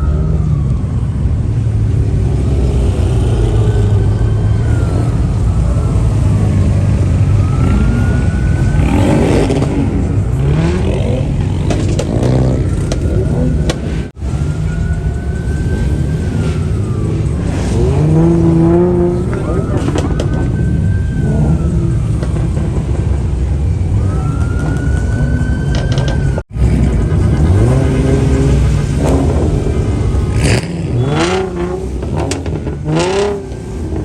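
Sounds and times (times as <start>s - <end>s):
car engines revving: 0.0s - 34.0s
police siren wailing: 0.0s - 34.0s.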